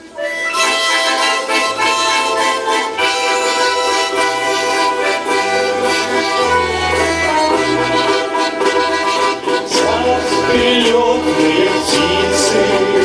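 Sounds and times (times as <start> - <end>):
folk instrument orchestra playing: 0.0 - 13.0.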